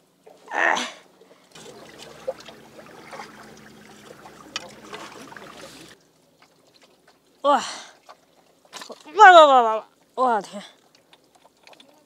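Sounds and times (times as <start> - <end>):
water trickling among rocks: 1.5 - 12.0.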